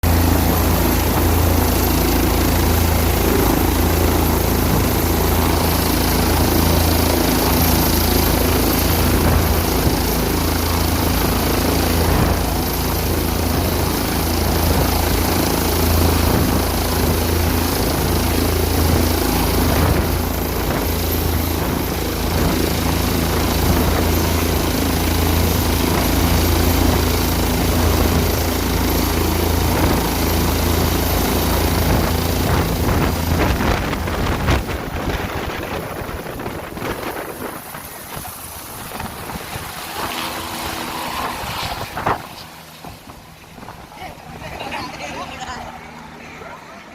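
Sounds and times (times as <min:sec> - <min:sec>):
helicopter rotor beat: 0:00.0 - 0:46.9
high turbine whine: 0:00.0 - 0:46.9.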